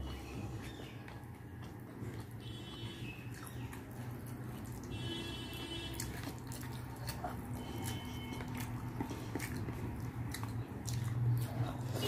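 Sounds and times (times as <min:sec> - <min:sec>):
person chewing with mouth clicks: 0:00.0 - 0:12.0.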